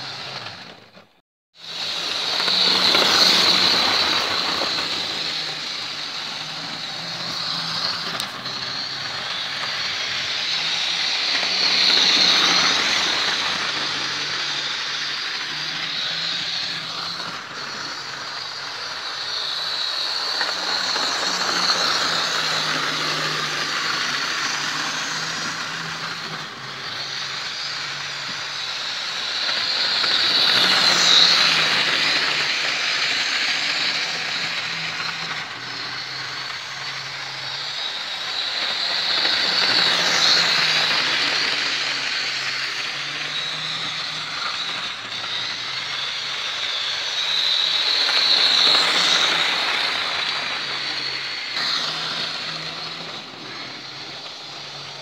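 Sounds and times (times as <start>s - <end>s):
model train motor whirring: 0.0s - 55.0s
wheels rattling over rail joints: 0.0s - 55.0s.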